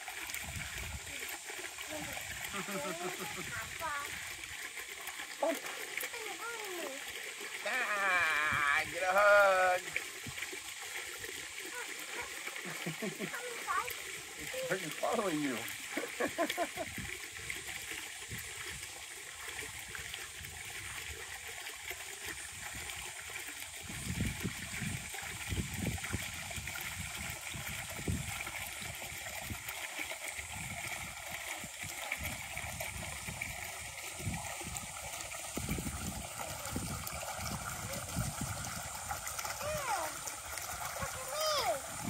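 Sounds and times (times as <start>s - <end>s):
running water hiss: 0.0s - 42.0s
water splashing and lapping: 0.0s - 42.0s.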